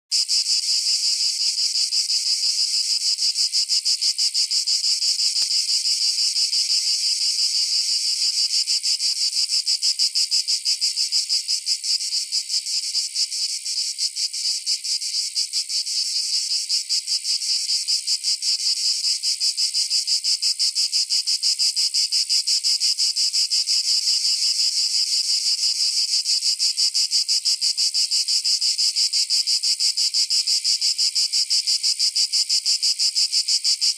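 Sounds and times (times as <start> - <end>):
cicadas buzzing: 0.1 - 33.9.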